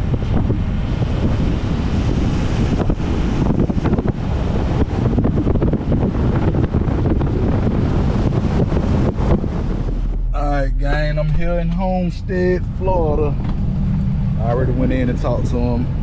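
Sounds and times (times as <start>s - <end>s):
truck rumbling: 0.0s - 16.0s
wind buffeting microphone: 0.0s - 16.0s.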